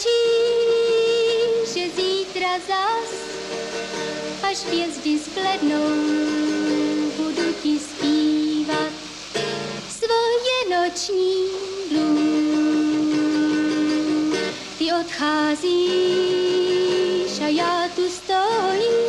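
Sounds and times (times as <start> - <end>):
person singing with vibrato: 0.0 - 19.0.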